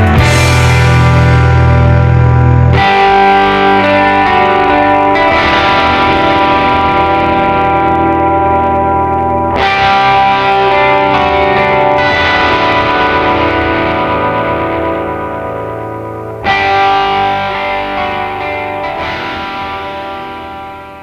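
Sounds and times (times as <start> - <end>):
guitar music with effects: 0.0 - 21.0.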